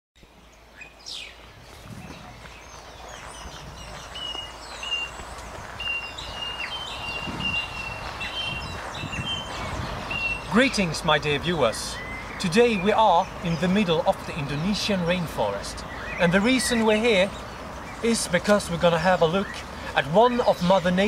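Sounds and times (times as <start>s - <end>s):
birds calling: 0.2s - 21.0s.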